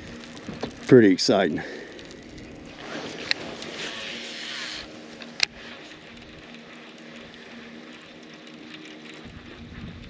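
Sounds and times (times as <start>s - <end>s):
faint mechanical whir: 0.0s - 10.0s
light crackling hiss: 0.0s - 10.0s.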